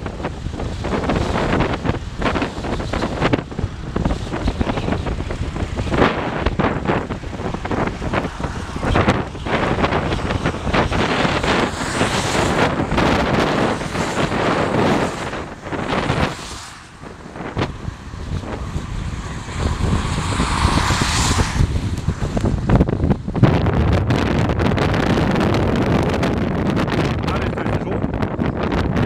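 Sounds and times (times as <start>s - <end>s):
vehicles passing: 0.0s - 29.0s
wind buffeting microphone: 0.0s - 29.0s.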